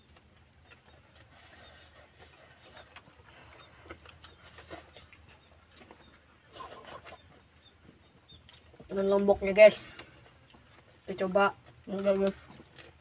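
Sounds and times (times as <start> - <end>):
soft chewing and smacking: 0.0 - 9.0, 9.8 - 13.0.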